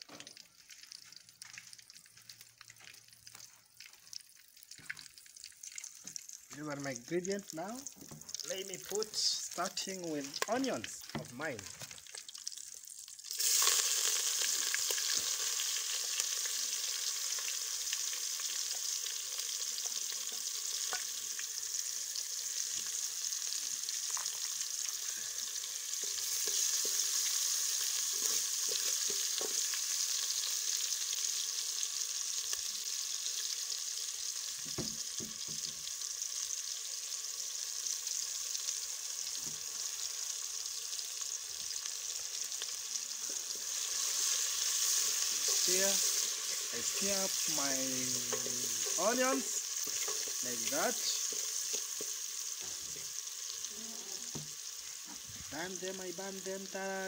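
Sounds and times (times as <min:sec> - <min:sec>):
onions sizzling in a pan: 0:00.0 - 0:57.0.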